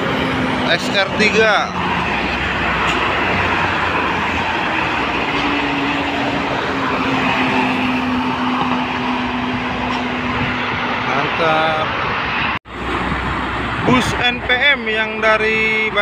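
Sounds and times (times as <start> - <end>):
highway traffic: 0.0 - 16.0.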